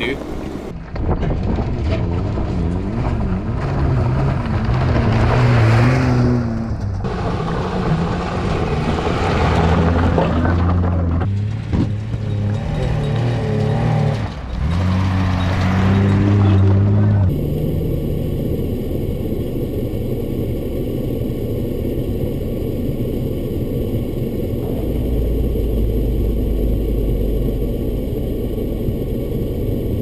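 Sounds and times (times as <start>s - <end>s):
vehicle engine pulling uphill: 0.0s - 30.0s.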